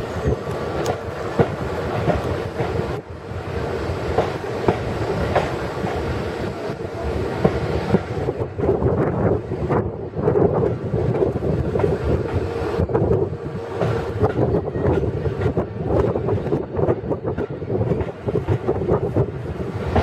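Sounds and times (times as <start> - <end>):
train carriage rumbling on track: 0.0 - 20.0.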